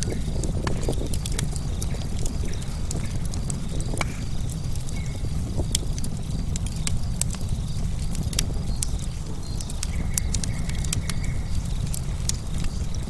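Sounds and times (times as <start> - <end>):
crickets chirping: 0.0 - 13.0
wood fire crackling and popping: 0.0 - 13.0.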